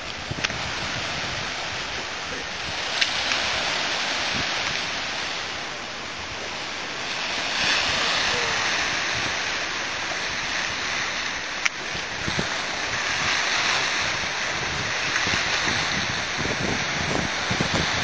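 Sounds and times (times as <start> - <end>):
surf splashing against rocks: 0.0 - 18.0.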